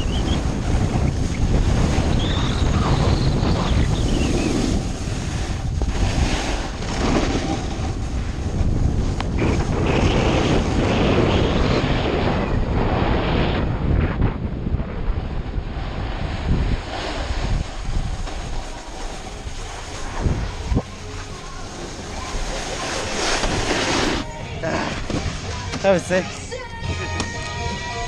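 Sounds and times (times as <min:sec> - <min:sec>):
heavy wind buffeting microphone: 0:00.0 - 0:26.2
snowboard scraping over snow: 0:00.0 - 0:26.6.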